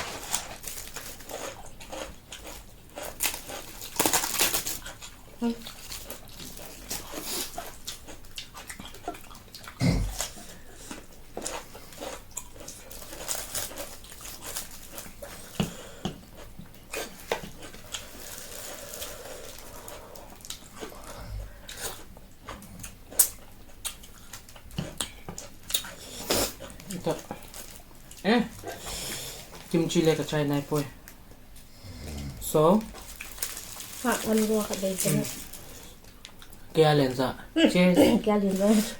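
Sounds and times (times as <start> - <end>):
people chewing: 0.0 - 36.7, 37.7 - 38.9.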